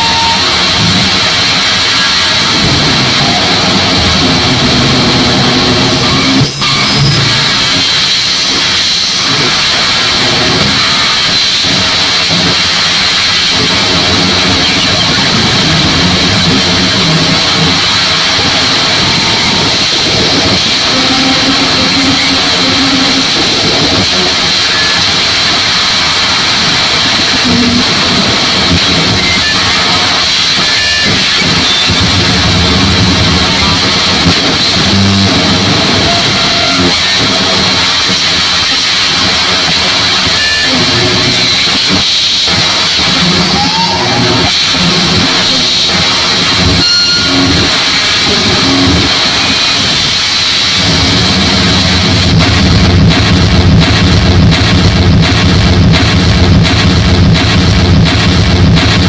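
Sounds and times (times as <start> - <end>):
harsh distorted electronic noise: 0.0 - 59.0.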